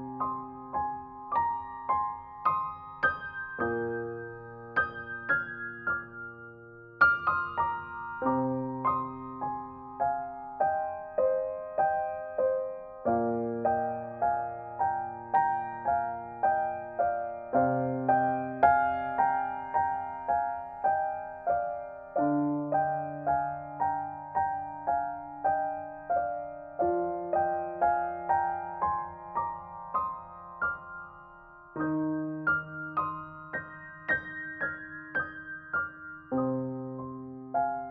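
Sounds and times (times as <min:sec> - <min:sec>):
gentle piano music: 0:00.0 - 0:37.9.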